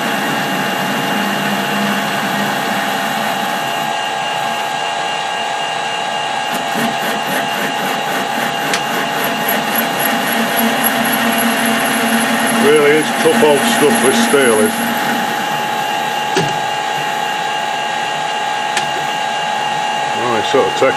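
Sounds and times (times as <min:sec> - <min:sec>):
metal lathe cutting steel: 0:00.0 - 0:20.9.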